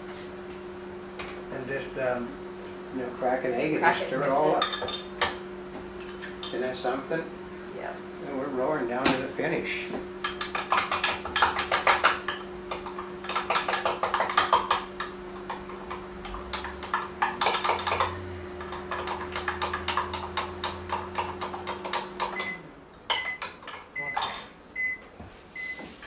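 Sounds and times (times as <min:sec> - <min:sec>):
microwave oven hum: 0:00.0 - 0:26.0.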